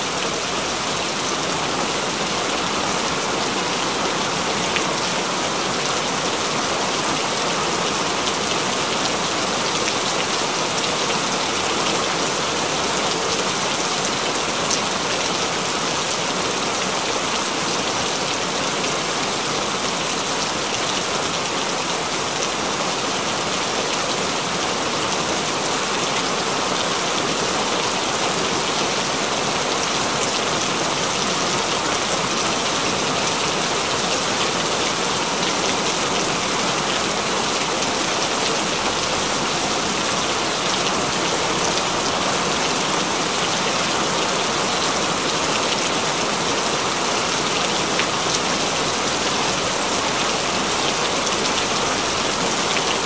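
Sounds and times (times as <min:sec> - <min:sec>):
rain splashing on hard surfaces: 0:00.0 - 0:53.0.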